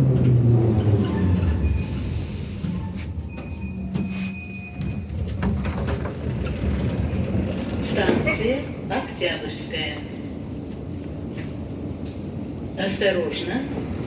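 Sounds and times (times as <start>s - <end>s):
metro train wheels rumbling: 0.0s - 14.0s.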